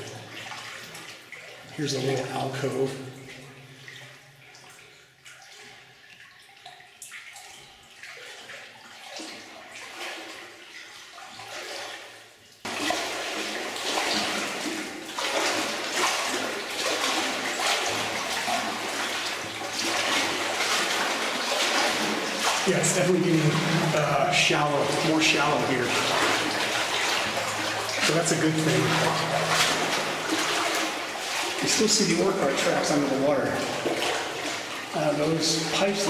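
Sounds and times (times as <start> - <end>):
person wading through water: 0.0 - 36.0.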